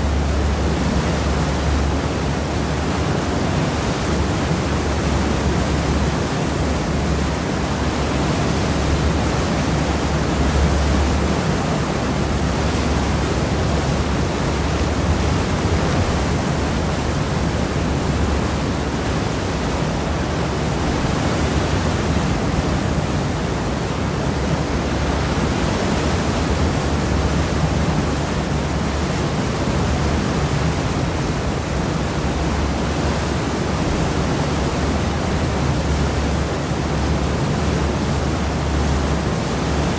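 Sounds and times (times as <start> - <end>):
churned sea water rushing: 0.0 - 39.9.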